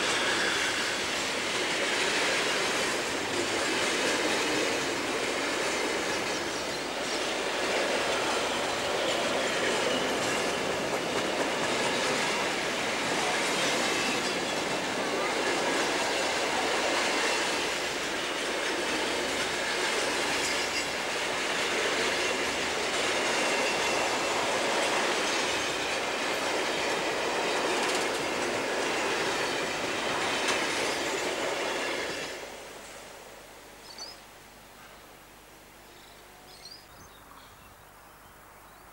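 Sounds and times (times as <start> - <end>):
freight train wheels on track: 0.0 - 33.4.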